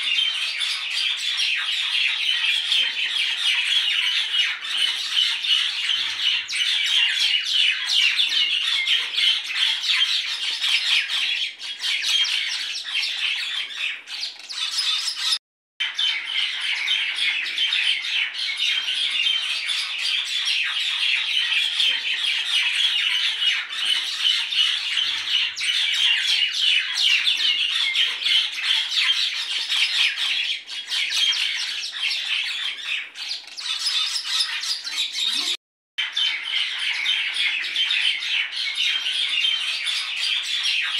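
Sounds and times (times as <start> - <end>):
flock of birds squawking: 0.0 - 40.9.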